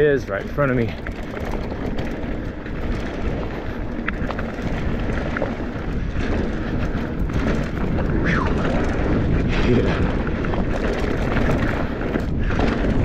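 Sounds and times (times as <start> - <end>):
bike rattling and knocking: 0.0 - 13.0
bike tyres on dirt and rocks: 0.0 - 13.0
wind noise on microphone: 0.0 - 13.0.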